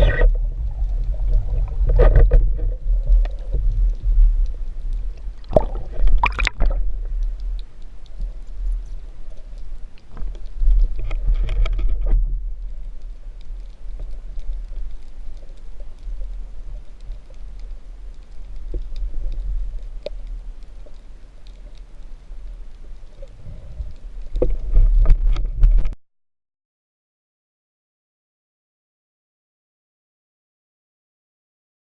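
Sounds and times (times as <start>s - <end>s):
sharp underwater clicks: 0.0s - 26.0s
underwater rumble: 0.0s - 26.0s.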